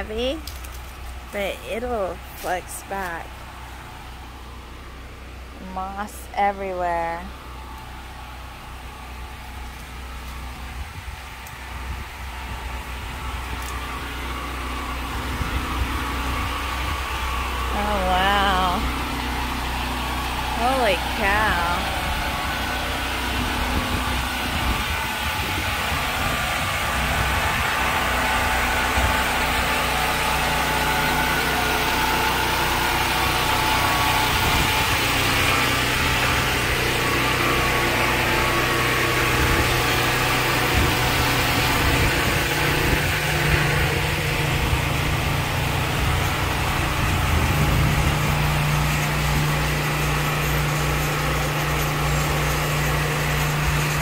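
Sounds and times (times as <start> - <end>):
engine running with low hum: 0.0 - 54.0.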